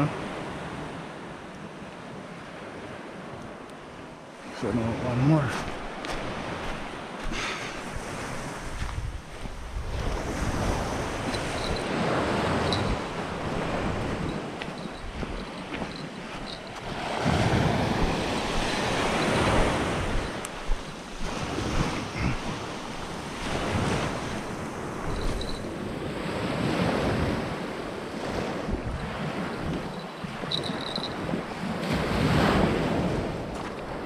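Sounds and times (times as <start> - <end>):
sea surf washing on beach: 0.0 - 34.0
wind buffeting microphone: 5.2 - 34.0.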